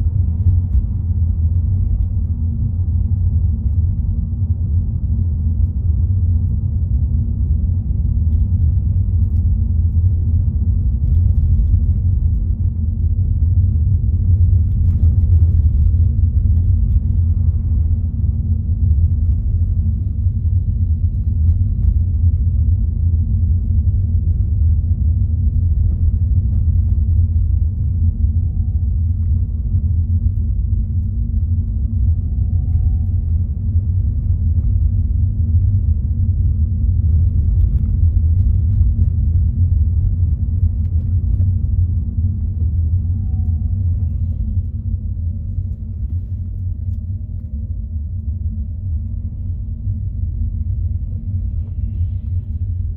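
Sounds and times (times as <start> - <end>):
car engine and tyre noise: 0.0 - 52.9
faint shifting whines: 7.7 - 52.9.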